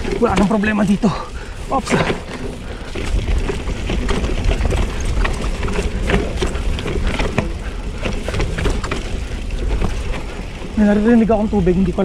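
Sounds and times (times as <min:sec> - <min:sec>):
bike rattling over rough ground: 0:00.0 - 0:12.0
wind rumble on microphone: 0:00.0 - 0:12.0.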